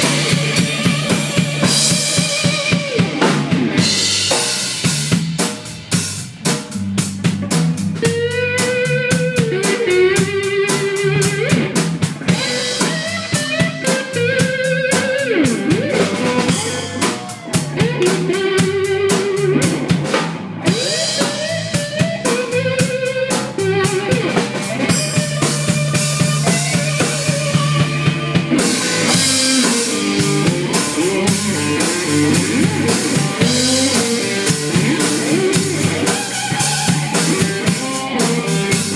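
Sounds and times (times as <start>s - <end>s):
drum kit beating: 0.0s - 38.9s
electric guitar lead: 0.0s - 38.9s.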